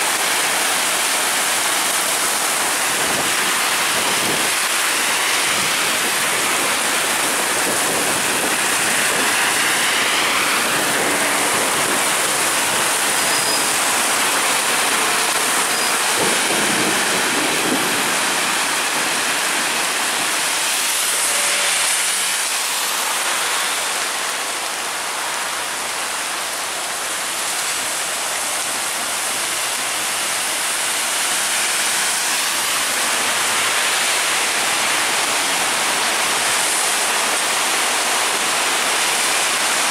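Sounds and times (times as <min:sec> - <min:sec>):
heavy rain pouring: 0:00.0 - 0:39.9
traffic swishing through water: 0:00.0 - 0:39.9.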